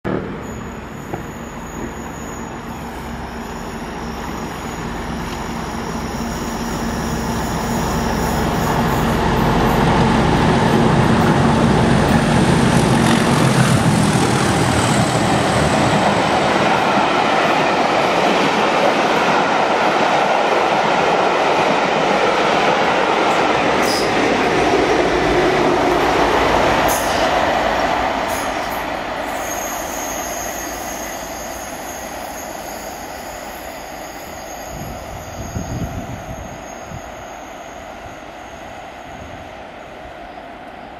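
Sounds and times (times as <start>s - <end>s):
diesel locomotives passing: 0.1s - 40.9s.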